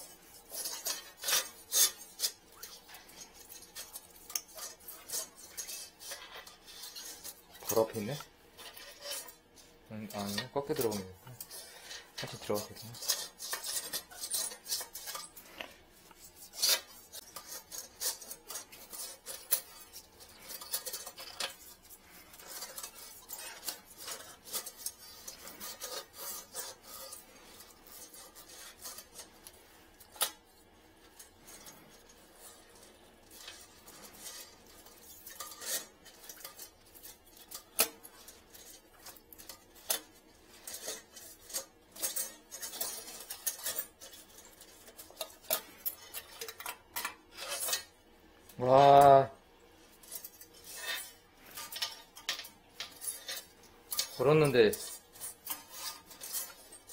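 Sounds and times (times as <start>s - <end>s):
metal wire scraping in toilet trap: 0.0s - 56.9s.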